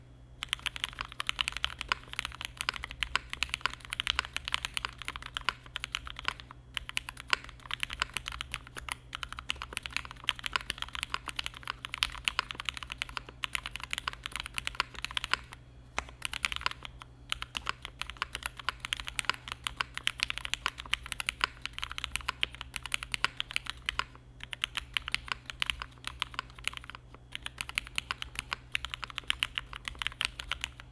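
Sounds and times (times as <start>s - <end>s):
mechanical keyboard typing: 0.4s - 30.9s.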